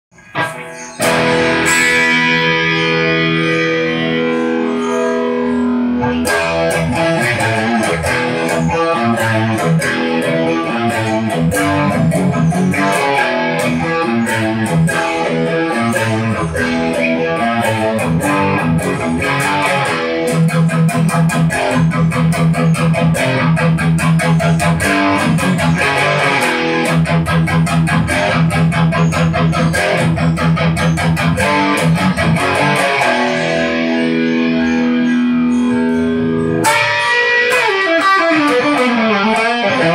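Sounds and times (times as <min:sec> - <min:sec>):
distorted electric guitar riffing: 0:00.1 - 0:39.9.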